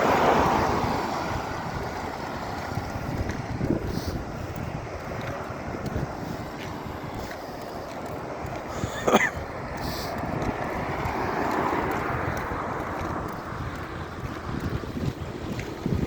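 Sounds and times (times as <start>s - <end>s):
road traffic: 0.0s - 16.0s
vehicle passing: 0.0s - 16.0s
wind buffeting microphone: 0.0s - 16.0s.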